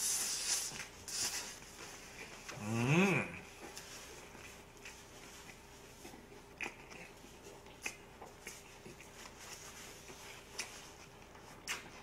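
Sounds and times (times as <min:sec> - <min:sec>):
close chewing crunches: 0:00.5 - 0:12.0.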